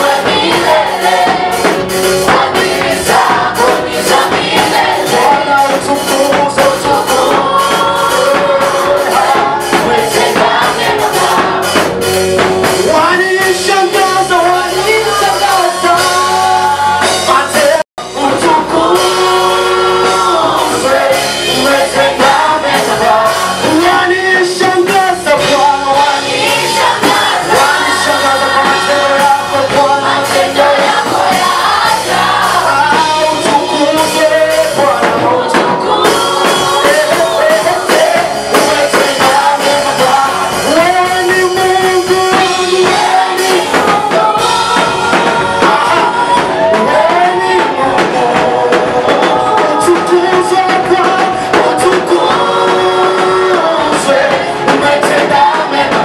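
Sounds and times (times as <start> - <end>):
instrumental accompaniment: 0.0 - 56.0
voices singing praise song: 0.0 - 56.0.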